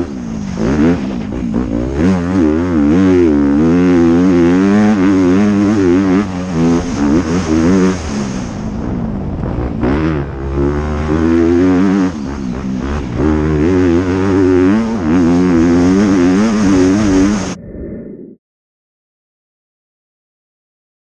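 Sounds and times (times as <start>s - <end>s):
motorbike engine revving: 0.0s - 17.6s.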